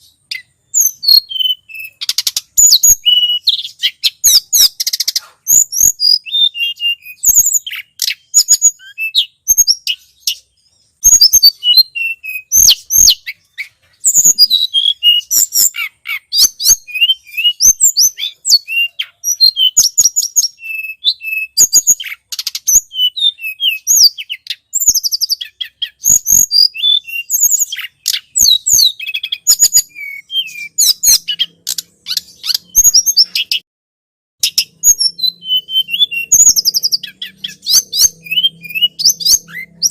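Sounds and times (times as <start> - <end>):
bird chirps and trills: 0.0 - 33.6, 34.4 - 39.9.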